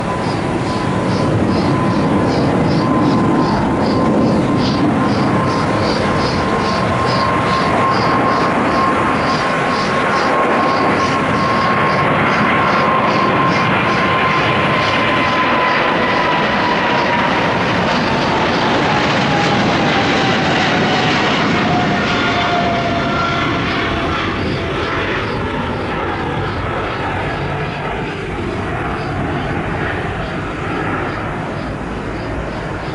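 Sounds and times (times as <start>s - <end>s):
jet roar at takeoff: 0.0s - 32.9s.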